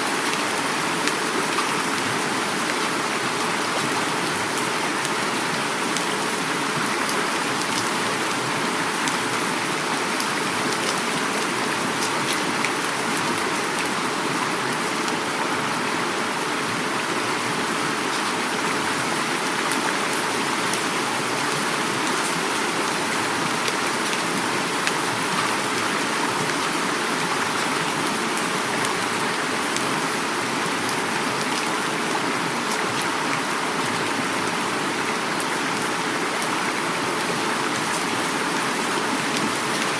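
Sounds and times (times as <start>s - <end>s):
heavy rain: 0.0s - 39.9s
river flowing: 0.0s - 39.9s.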